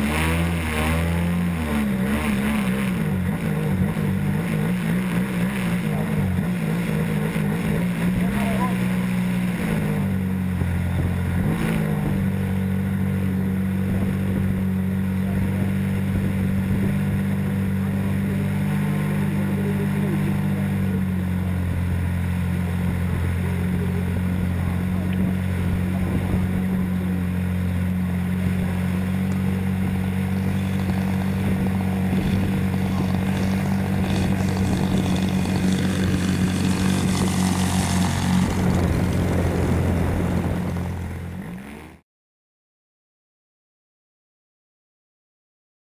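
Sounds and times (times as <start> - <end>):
model airplane motor and propeller: 0.0 - 42.0.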